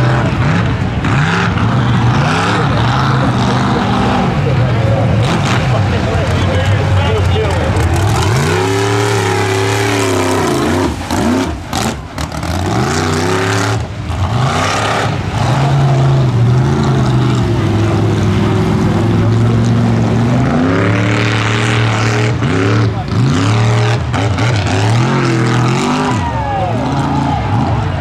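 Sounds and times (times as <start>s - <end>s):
truck engine revving hard: 0.0s - 28.0s.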